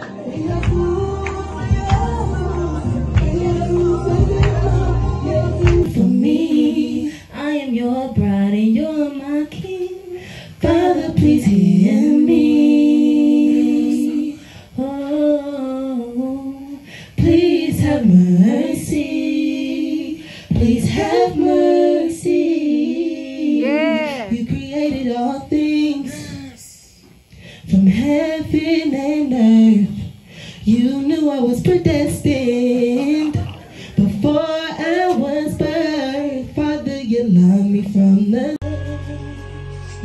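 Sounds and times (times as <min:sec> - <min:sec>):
two women singing: 0:00.0 - 0:40.0.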